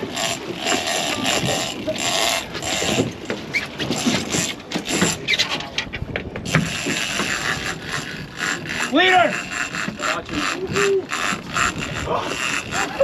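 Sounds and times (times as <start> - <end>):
fishing reel clicking and ratcheting: 0.0 - 5.3, 6.4 - 13.0.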